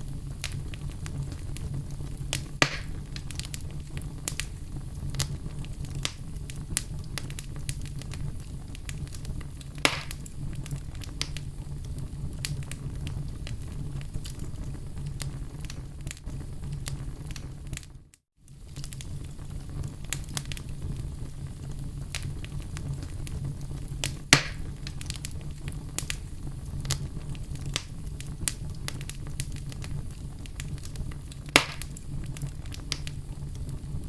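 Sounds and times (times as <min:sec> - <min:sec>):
fire crackling: 0:00.0 - 0:34.0
fire flames rumbling: 0:00.0 - 0:34.0
loud fire pops: 0:00.0 - 0:34.0.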